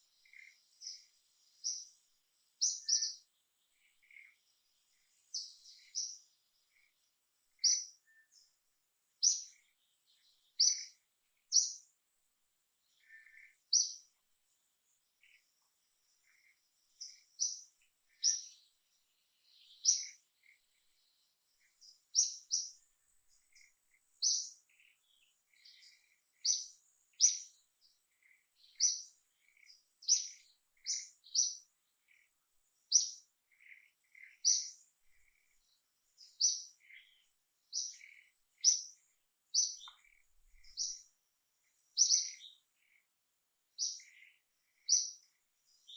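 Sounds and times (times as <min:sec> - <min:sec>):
bird chirping: 0:00.0 - 0:45.9.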